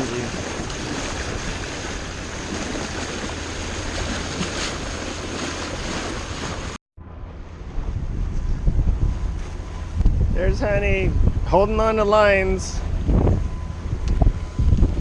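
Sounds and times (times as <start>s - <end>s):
sea water rushing around boat: 0.0s - 15.0s
wind buffeting microphone: 0.0s - 15.0s.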